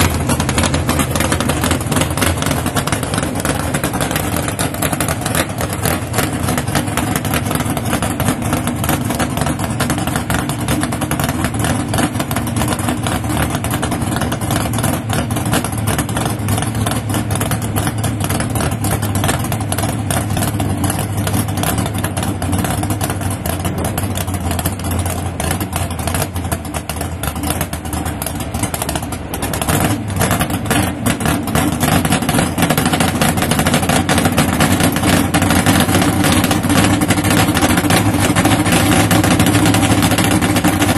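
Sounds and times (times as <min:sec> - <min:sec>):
drag racing car engines: 0:00.0 - 0:40.9.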